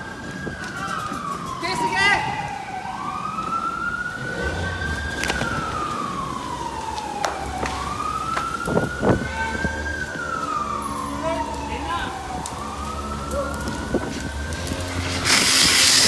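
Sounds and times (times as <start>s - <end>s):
fire truck siren wailing: 0.0s - 16.0s.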